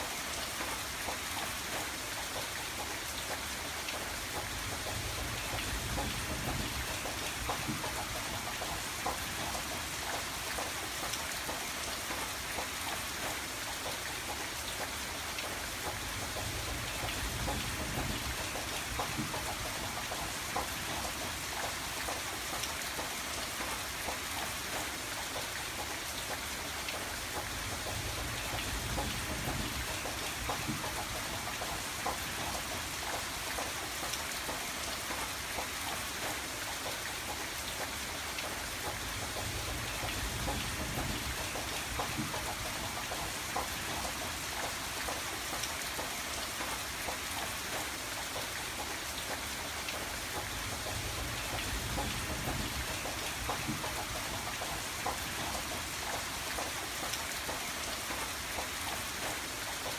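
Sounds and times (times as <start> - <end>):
rain on a window pane: 0.0 - 59.9.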